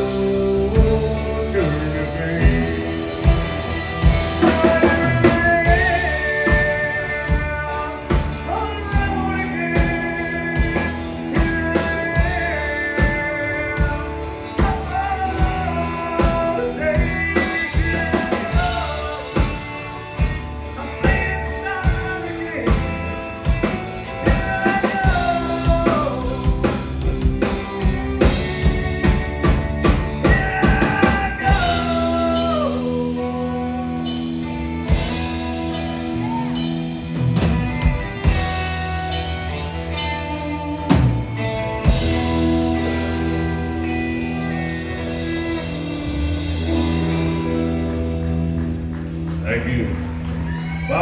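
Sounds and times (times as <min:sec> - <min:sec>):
drum kit: 0:00.0 - 0:51.0
electric bass: 0:00.0 - 0:51.0.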